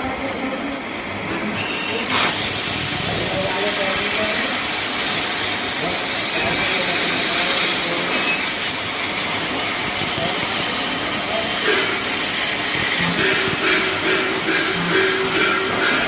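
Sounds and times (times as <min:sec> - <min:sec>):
plasma cutter hissing: 0:01.6 - 0:16.0.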